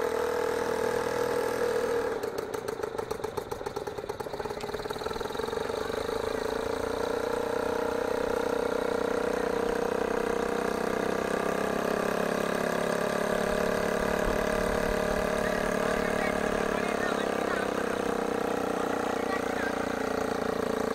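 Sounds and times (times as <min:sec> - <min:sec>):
aircraft engine and propeller running: 0:00.0 - 0:20.9.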